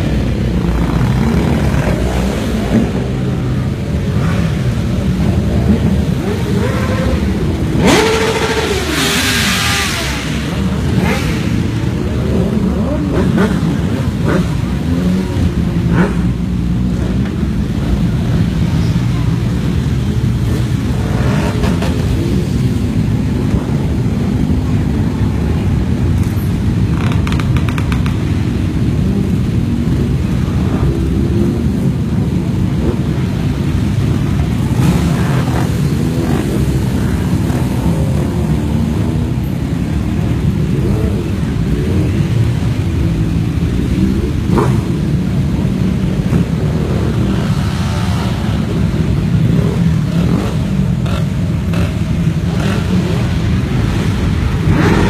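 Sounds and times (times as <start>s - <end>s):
motorcycle engines rumbling: 0.0s - 55.0s.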